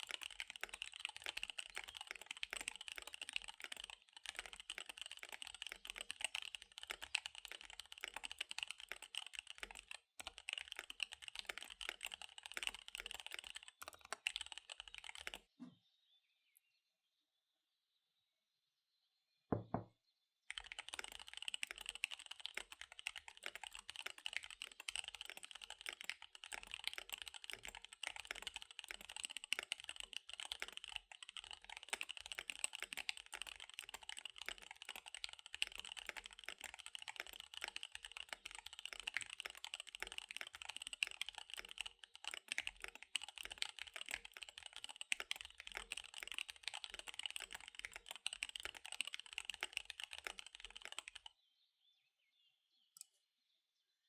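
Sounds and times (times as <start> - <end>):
fast mechanical keyboard typing: 0.0 - 15.5, 20.5 - 51.3.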